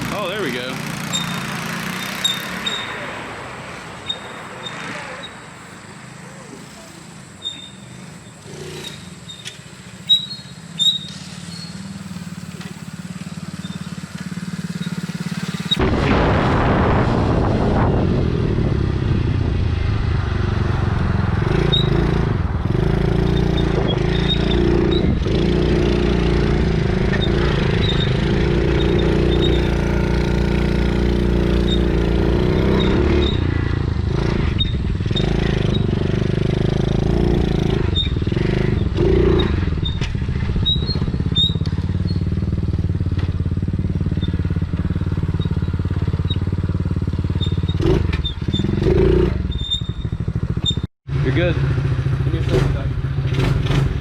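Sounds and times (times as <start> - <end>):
small motorbike engine running: 0.0 - 3.0, 6.1 - 15.8, 21.7 - 54.0.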